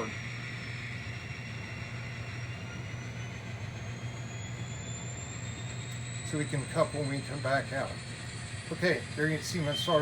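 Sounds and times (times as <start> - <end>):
model locomotive engine drone: 0.0 - 10.0
thin high whine: 0.0 - 10.0.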